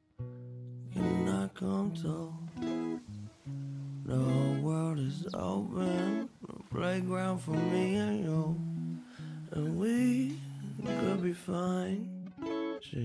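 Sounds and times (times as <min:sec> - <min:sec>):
acoustic guitar: 0:00.0 - 0:13.0
person singing: 0:00.9 - 0:03.3, 0:04.0 - 0:13.0.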